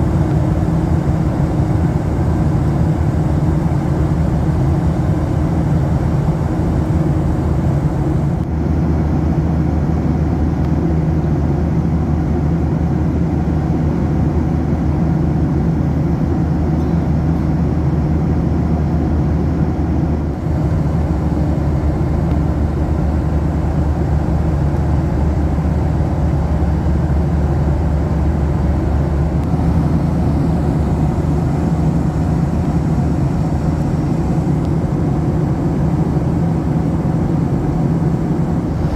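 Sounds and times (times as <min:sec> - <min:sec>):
airplane cabin engine hum: 0:00.0 - 0:38.9.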